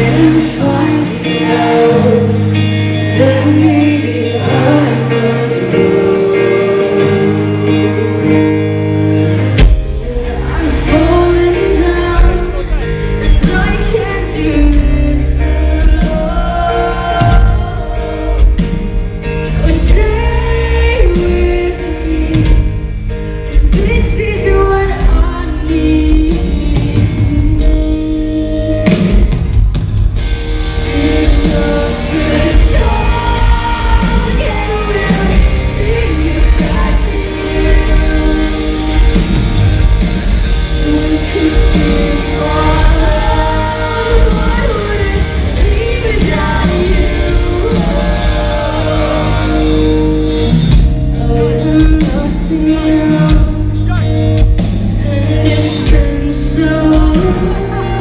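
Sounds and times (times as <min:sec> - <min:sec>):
woman singing: 0:00.0 - 0:29.5, 0:30.4 - 0:58.0
bass: 0:00.0 - 0:58.0
distorted guitars: 0:00.0 - 0:58.0
drum kit: 0:00.0 - 0:58.0.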